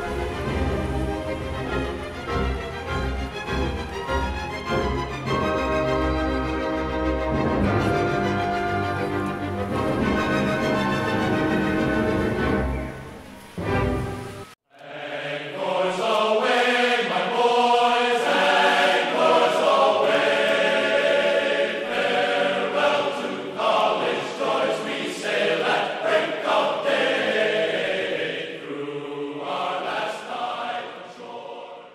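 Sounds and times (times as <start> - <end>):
choir singing slow chords: 0.0 - 31.9.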